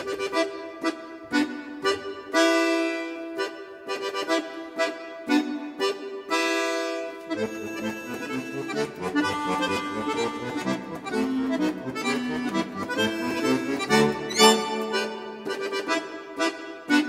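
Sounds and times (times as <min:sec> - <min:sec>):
accordion tune: 0:00.0 - 0:17.0.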